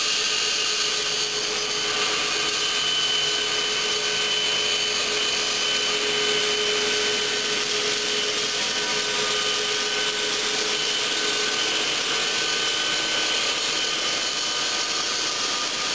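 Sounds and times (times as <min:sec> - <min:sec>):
saw whining through stone: 0:00.0 - 0:15.9.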